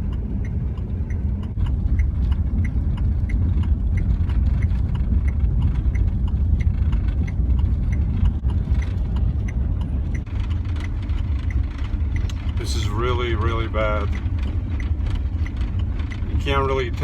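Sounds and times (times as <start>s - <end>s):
light ticks: 0.0s - 17.0s
van engine and tyres rumbling on ice: 0.0s - 17.0s.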